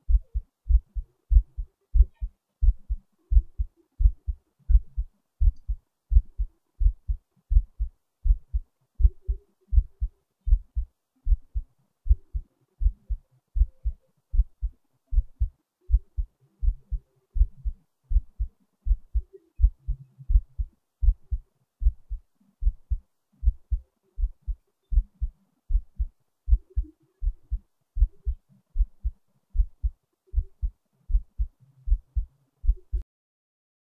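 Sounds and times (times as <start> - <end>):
faint hum: 0.0 - 33.0
heartbeat thumps: 0.0 - 33.0.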